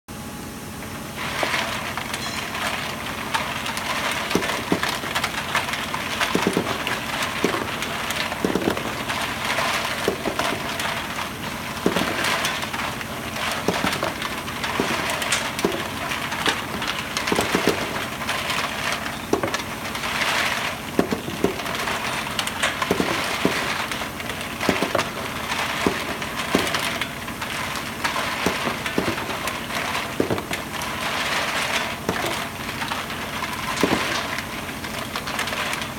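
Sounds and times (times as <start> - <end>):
plastic parts clattering in drum: 1.2 - 35.9.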